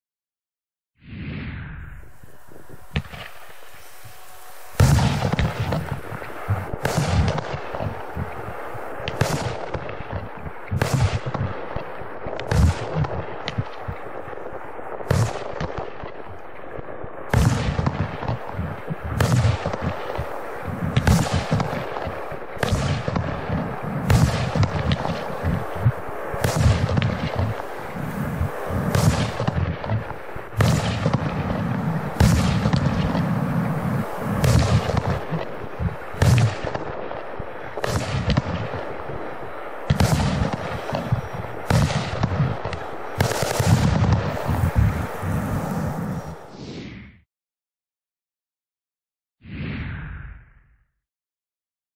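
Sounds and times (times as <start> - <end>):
fireworks bangs: 1.0 - 46.9
fireworks hissing: 1.2 - 15.3, 17.2 - 46.9.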